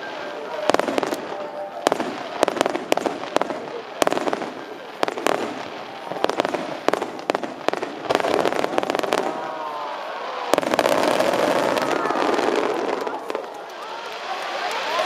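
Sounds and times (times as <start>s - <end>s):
crackling fireworks stars: 0.0s - 15.0s
fireworks bursting: 0.0s - 15.0s.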